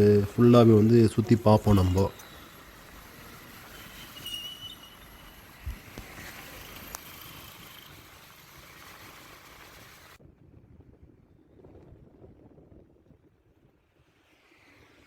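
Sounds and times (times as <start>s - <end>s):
motorcycle road and wind noise: 0.0s - 15.0s.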